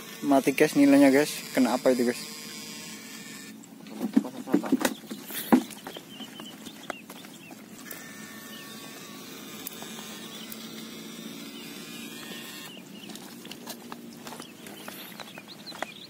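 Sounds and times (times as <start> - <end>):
outdoor background: 0.0 - 16.0.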